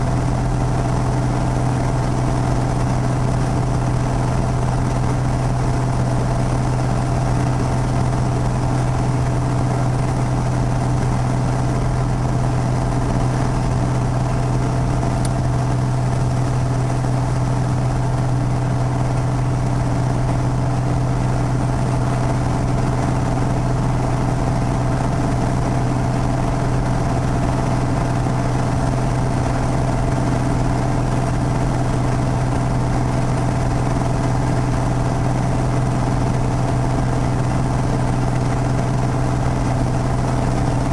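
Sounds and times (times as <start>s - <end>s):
propeller plane engine humming: 0.0s - 40.9s.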